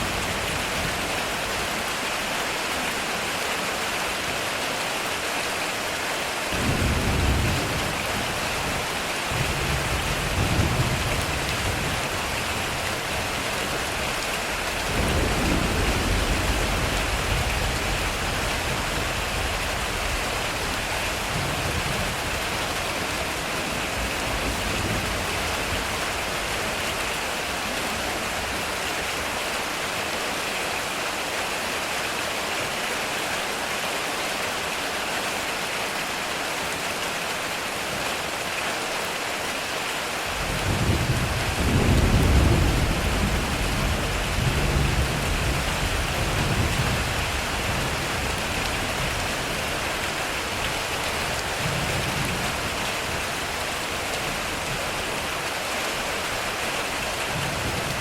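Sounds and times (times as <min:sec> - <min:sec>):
rain on a metal roof: 0:00.0 - 0:58.0.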